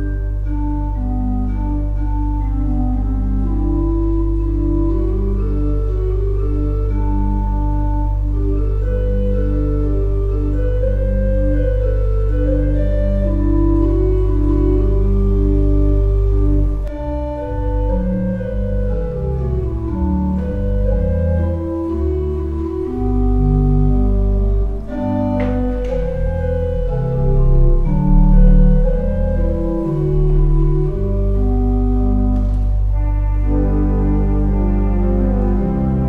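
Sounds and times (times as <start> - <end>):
slow organ music: 0.0 - 36.0.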